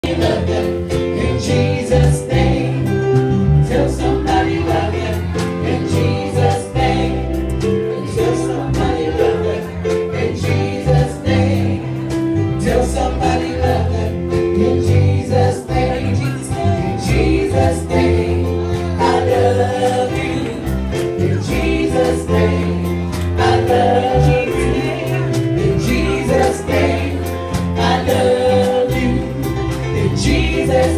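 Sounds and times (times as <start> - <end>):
band with drums and bass: 0.0 - 30.9
group singing on microphones: 0.0 - 30.9.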